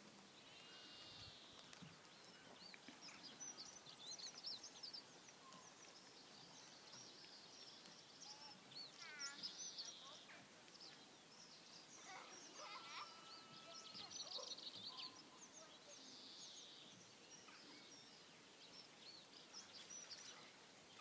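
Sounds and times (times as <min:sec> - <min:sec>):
light steady hiss: 0:00.0 - 0:21.0
songbirds chirping: 0:00.0 - 0:21.0.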